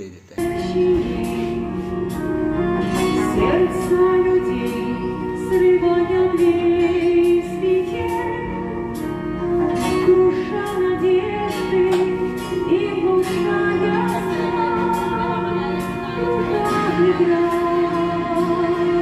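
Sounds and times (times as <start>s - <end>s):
woman singing into microphone: 0.4s - 19.0s.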